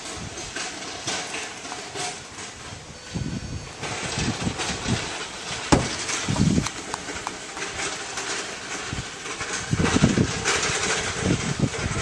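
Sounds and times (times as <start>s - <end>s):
trolleys rattling: 0.0s - 12.0s.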